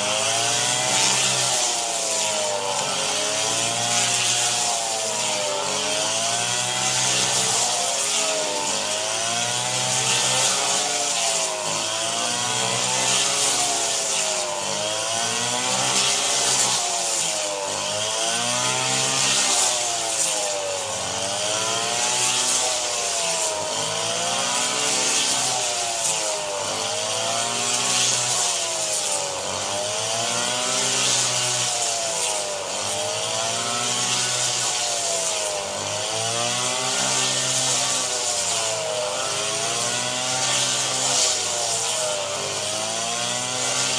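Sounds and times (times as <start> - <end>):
small petrol engine cutting rice: 0.0 - 43.9.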